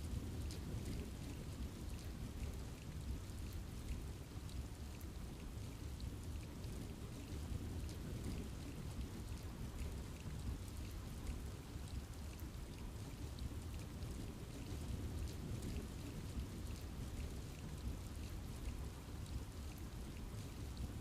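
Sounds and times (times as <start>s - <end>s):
rain falling in forest: 0.0s - 21.0s.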